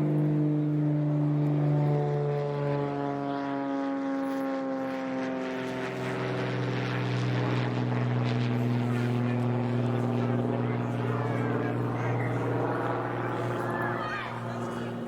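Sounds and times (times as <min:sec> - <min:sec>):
propeller plane flying over: 0:00.0 - 0:15.0.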